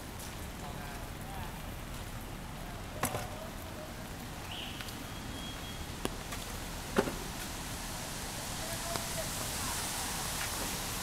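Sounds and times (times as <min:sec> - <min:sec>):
rainy city street ambience: 0:00.0 - 0:11.0.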